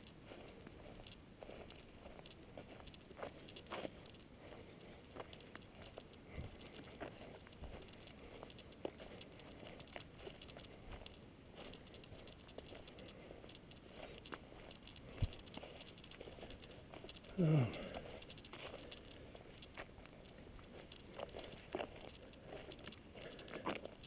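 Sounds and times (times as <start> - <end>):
footsteps on dirt and leaves: 0.0 - 24.0.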